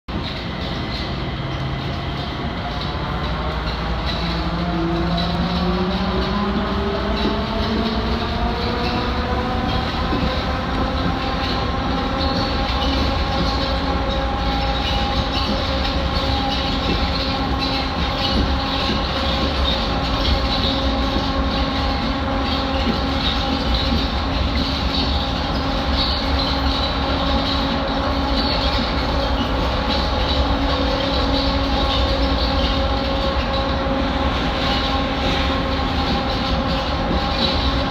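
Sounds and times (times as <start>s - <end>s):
rumble of running train: 0.1s - 37.9s.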